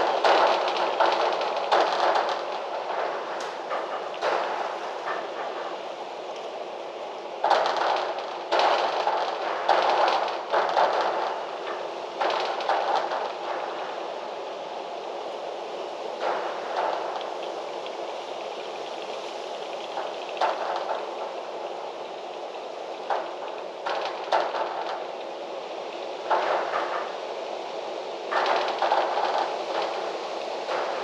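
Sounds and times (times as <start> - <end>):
wind rustling tree leaves: 0.0 - 31.0.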